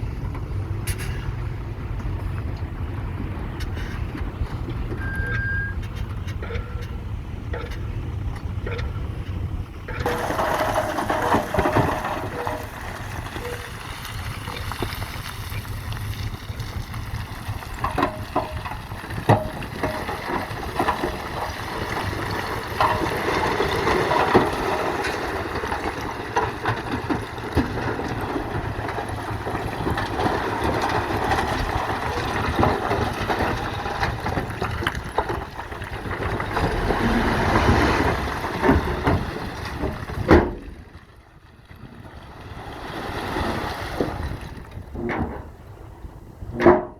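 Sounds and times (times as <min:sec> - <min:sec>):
knocks and scrapes: 0:03.5 - 0:40.8, 0:43.4 - 0:45.7.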